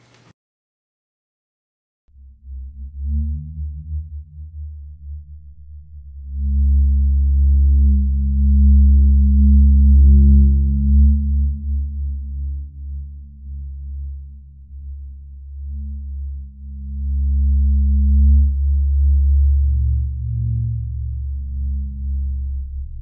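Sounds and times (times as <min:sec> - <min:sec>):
ominous low drone: 0:02.1 - 0:23.0.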